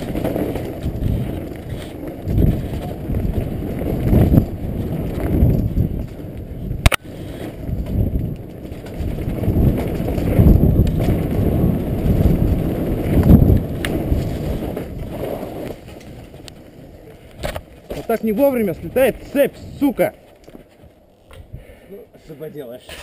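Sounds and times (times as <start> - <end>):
tyre rumble on dirt: 0.0 - 20.8
bike rattling on bumps: 0.0 - 21.4
wind buffeting microphone: 0.0 - 21.7.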